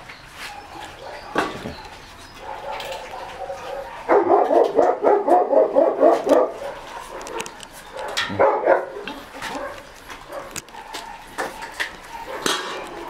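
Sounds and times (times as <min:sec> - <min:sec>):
puppies yapping and whining: 0:00.0 - 0:13.0.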